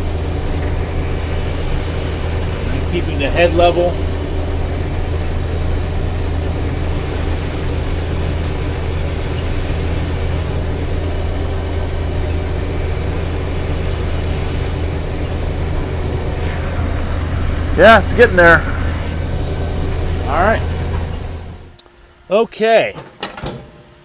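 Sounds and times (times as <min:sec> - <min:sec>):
combine harvester engine hum: 0:00.0 - 0:24.0
threshing machinery noise: 0:00.0 - 0:24.0.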